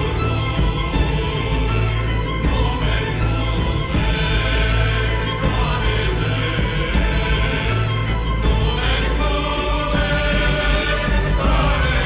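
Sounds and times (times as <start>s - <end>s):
choir singing: 0.0s - 12.0s
string orchestra playing: 0.0s - 12.0s.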